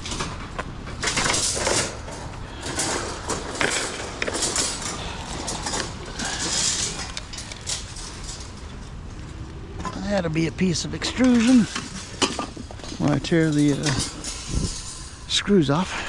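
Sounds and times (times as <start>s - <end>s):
wire shelving rattling and clinking: 0.0s - 15.3s.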